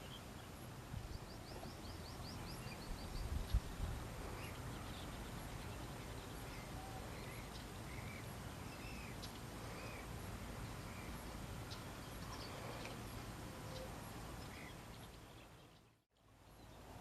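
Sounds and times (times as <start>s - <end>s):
wild birds calling: 0.0s - 16.0s
outdoor background noise: 0.0s - 17.0s.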